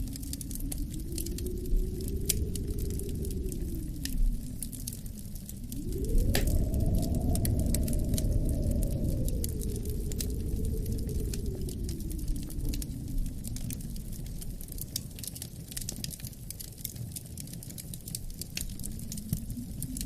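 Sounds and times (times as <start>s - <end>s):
low wind rumble: 0.0s - 20.0s
wood fire crackling: 0.0s - 20.0s.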